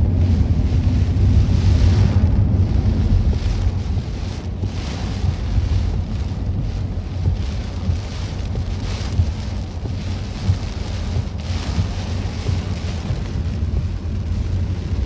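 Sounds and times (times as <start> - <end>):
heavy rain on a car: 0.0 - 15.0
low rumble of car: 0.0 - 15.0.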